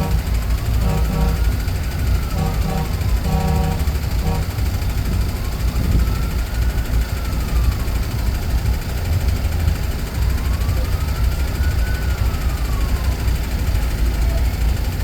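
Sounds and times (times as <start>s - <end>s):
diesel truck engines rumbling: 0.0s - 15.0s
siren wailing: 0.0s - 15.0s.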